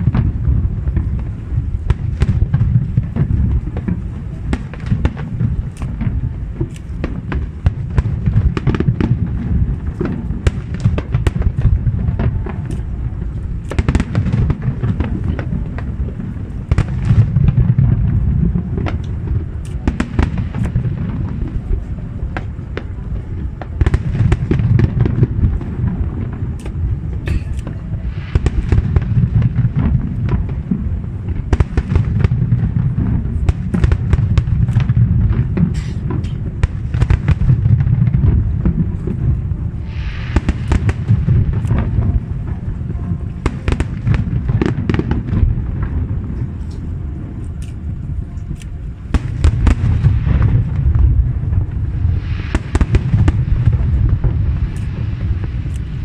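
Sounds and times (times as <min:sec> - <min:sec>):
deep rolling rumble: 0:00.0 - 0:56.0
distant fireworks bangs and crackling: 0:00.0 - 0:56.0.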